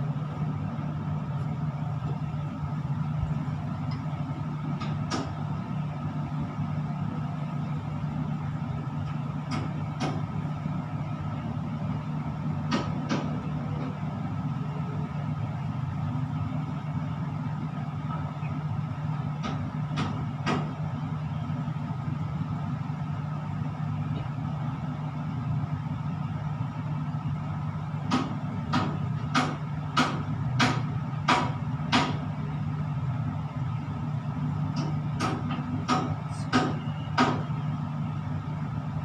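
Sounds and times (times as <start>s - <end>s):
electrical machinery hum: 0.0s - 39.0s.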